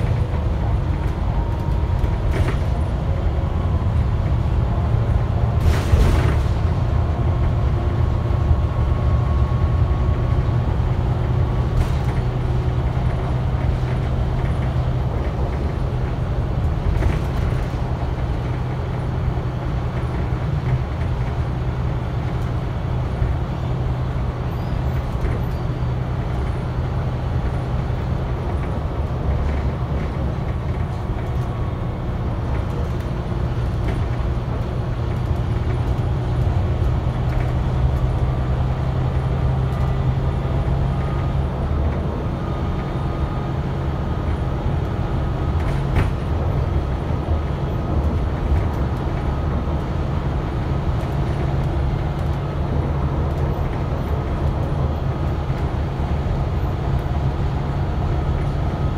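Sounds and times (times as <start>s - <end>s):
bus diesel engine droning: 0.0s - 58.9s
road and tyre noise: 0.0s - 58.9s.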